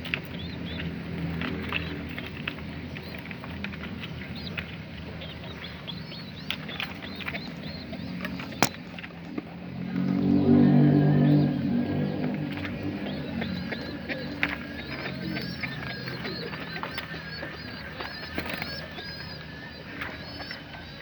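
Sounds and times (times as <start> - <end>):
low engine rumble: 0.0 - 21.0
low motor hum: 0.0 - 21.0.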